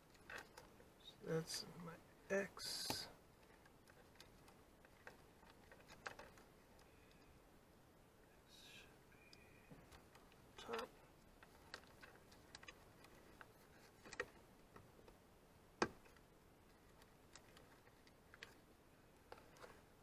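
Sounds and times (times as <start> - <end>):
wire rustling: 0.0 - 1.1, 2.6 - 7.4, 9.3 - 15.2, 15.8 - 20.0.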